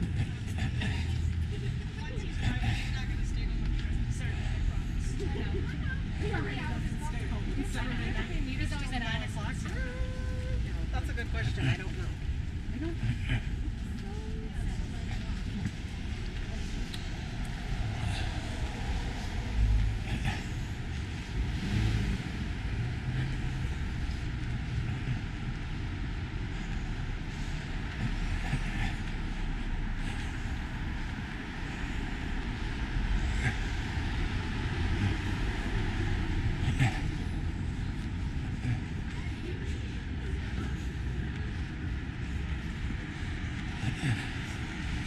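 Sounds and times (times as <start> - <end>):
traffic rumble: 0.0 - 45.0.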